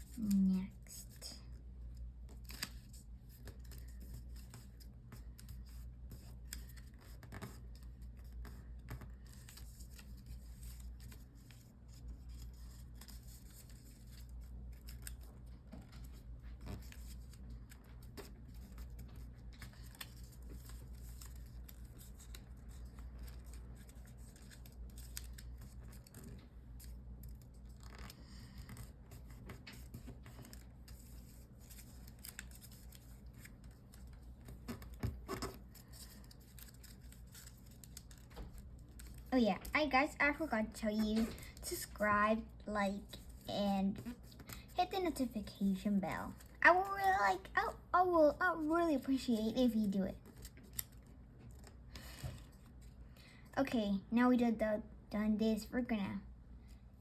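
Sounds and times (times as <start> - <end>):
paper rustling and crackling: 2.0 - 39.9, 43.0 - 53.0.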